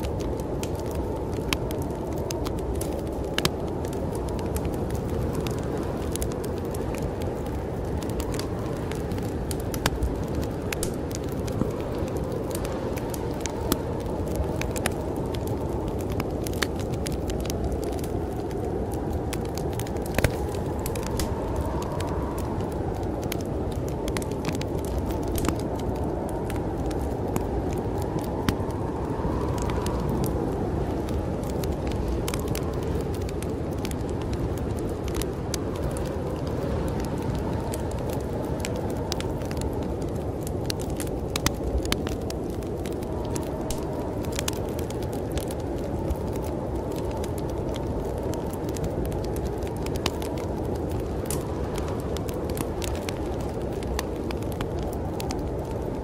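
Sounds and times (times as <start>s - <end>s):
storm wind rushing: 0.0s - 56.0s
wood fire crackling and popping: 0.0s - 56.0s.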